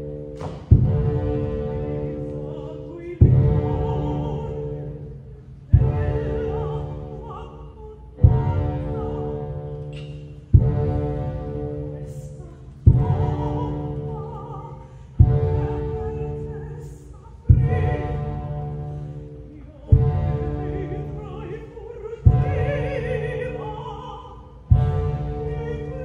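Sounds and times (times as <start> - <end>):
orchestra heavy low chords: 0.0 - 26.0
opera singer with vibrato: 0.9 - 26.0.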